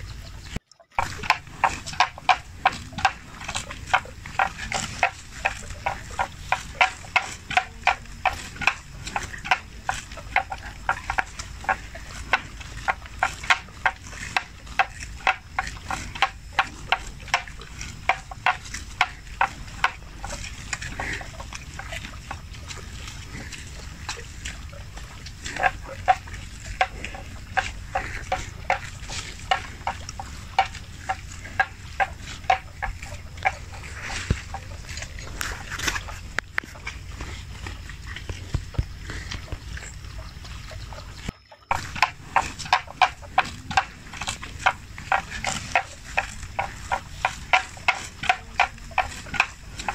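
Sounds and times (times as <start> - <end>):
buffalo crunching grass: 0.1 - 49.9.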